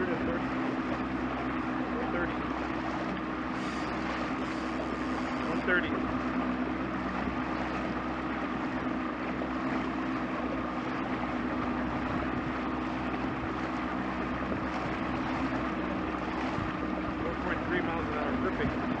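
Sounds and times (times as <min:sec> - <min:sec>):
outboard motor running: 0:00.0 - 0:19.0
water and hull noise: 0:00.0 - 0:19.0.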